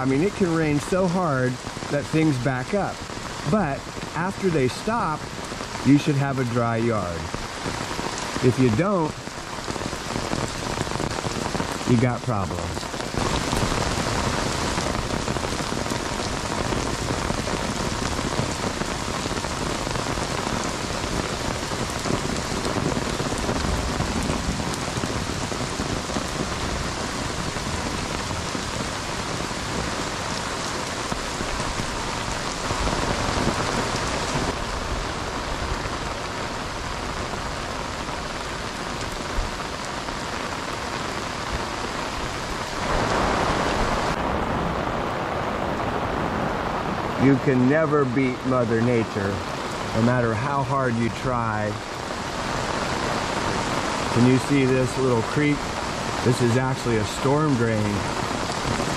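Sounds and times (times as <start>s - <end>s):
heavy rain on pavement: 0.0s - 58.9s.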